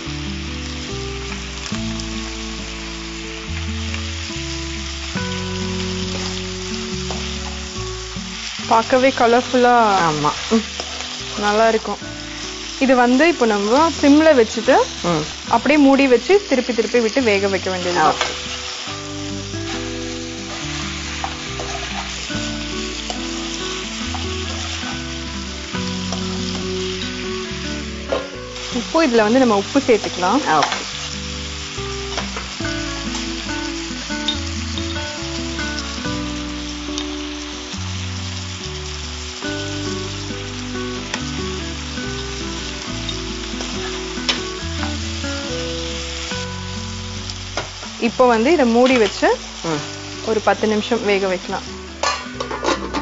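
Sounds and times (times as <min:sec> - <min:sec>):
background music held notes: 0:00.0 - 0:53.0
food sizzling in oil: 0:00.0 - 0:53.0.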